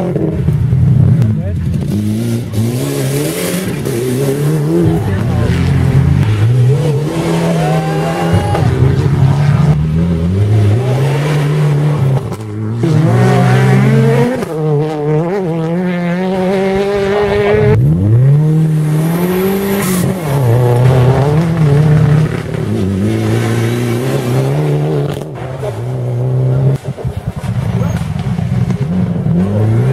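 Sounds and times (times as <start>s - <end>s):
rally car engines revving: 0.0s - 29.9s.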